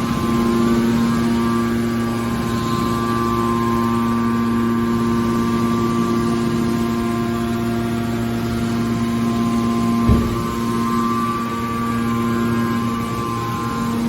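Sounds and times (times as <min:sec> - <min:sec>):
hydraulic pump motor humming: 0:00.0 - 0:14.0.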